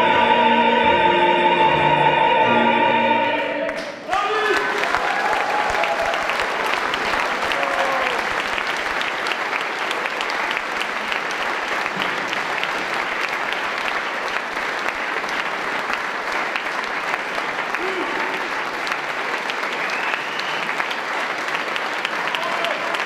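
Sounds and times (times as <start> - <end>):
audience applauding: 3.7 - 23.0.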